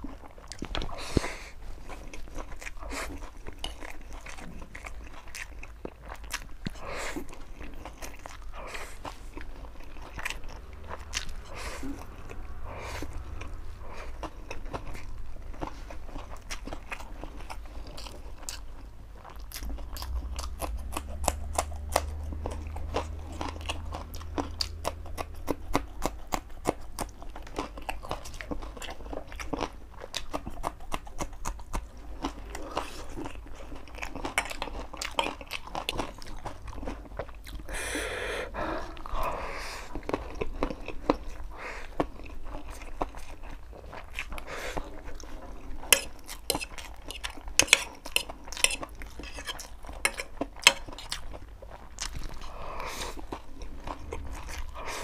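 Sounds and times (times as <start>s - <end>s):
chewing with wet mouth clicks: 0.0s - 37.7s, 38.9s - 55.0s
low steady hum: 0.0s - 55.0s.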